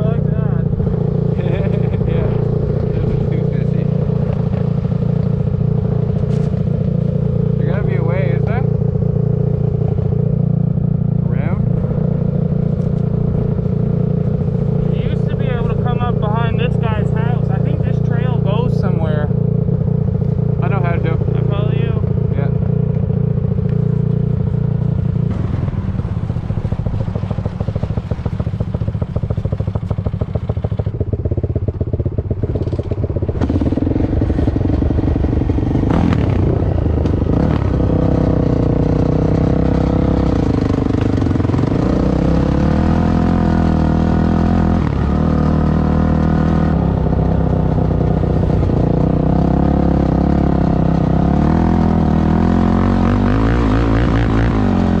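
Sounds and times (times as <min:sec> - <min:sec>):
motorcycle engine revving under load: 0:00.0 - 0:55.0.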